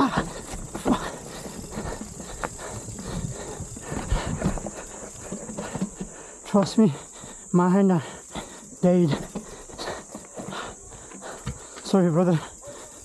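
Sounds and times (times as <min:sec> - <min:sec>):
mountain bike knocking and rattling: 0:00.0 - 0:07.4, 0:08.0 - 0:12.9
insects chirring: 0:00.0 - 0:13.0.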